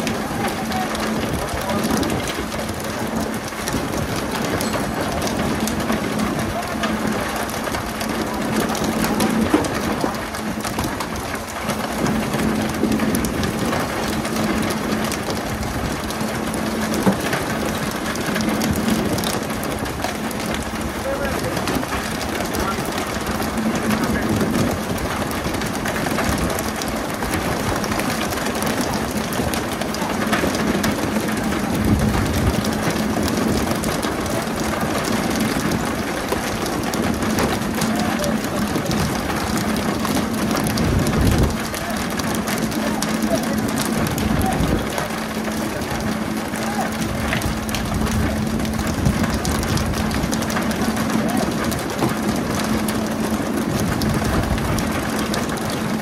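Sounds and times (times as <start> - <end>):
boat engine hum: 0.0 - 56.0.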